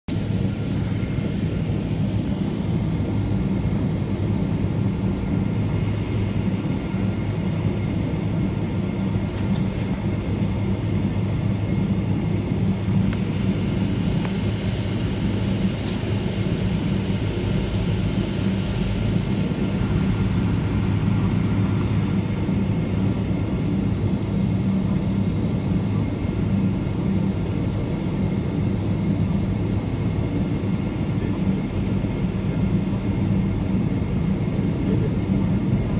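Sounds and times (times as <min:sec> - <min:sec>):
airplane cabin engine drone: 0:00.1 - 0:35.9.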